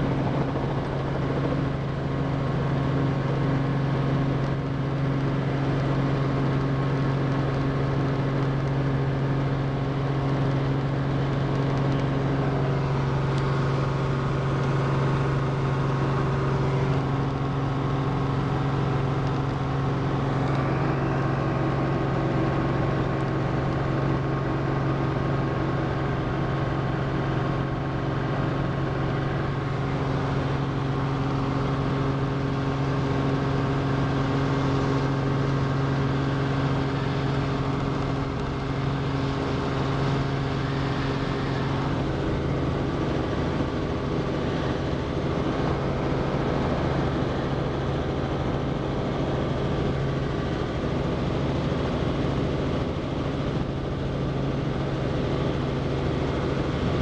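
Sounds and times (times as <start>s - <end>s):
helicopter engine and rotors: 0.0s - 57.0s.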